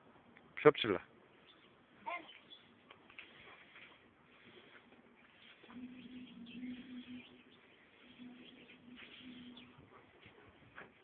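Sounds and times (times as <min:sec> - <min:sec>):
low steady hum: 0:00.0 - 0:11.0
faint bird chirping: 0:01.2 - 0:11.0.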